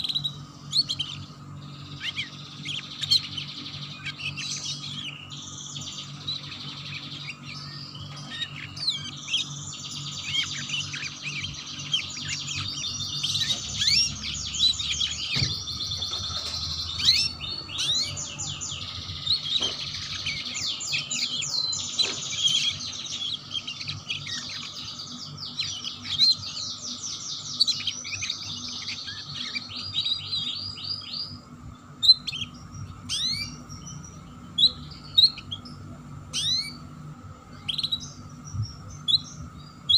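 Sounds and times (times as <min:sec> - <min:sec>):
canary chirps: 0:00.0 - 0:39.9
canary singing trills: 0:00.0 - 0:39.9.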